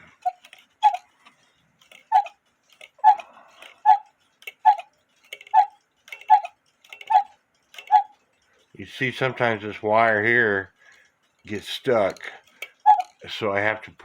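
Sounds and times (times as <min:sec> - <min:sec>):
clock movement ticking: 0:00.0 - 0:14.0.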